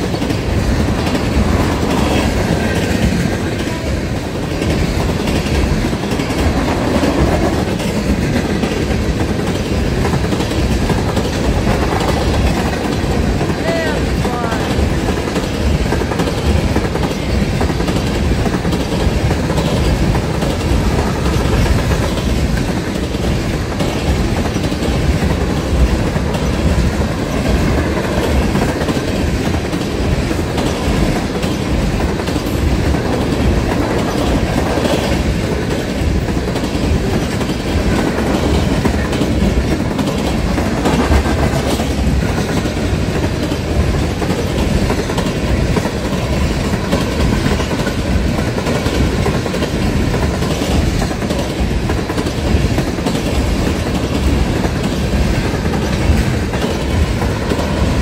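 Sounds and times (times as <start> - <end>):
clickety-clack over rail joints: 0.0 - 58.0
freight train wheels rumbling: 0.0 - 58.0.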